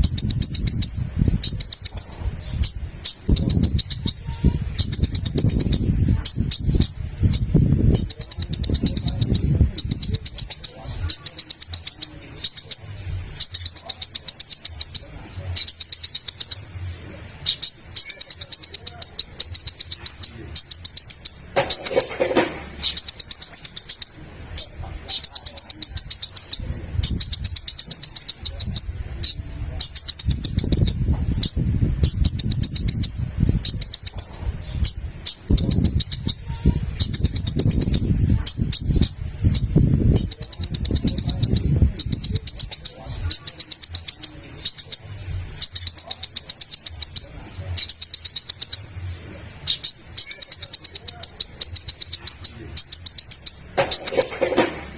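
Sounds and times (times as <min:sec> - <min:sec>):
bird chattering song: 0:00.0 - 0:54.8.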